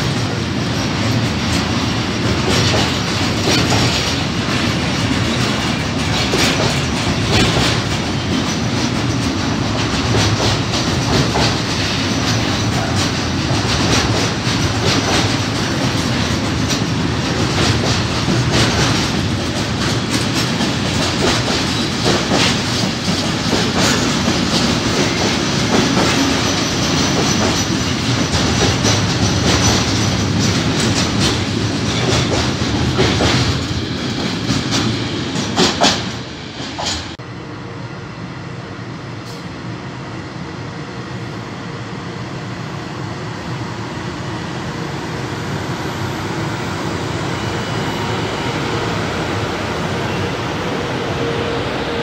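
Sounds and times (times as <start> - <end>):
electric locomotive rumbling: 0.0 - 52.0.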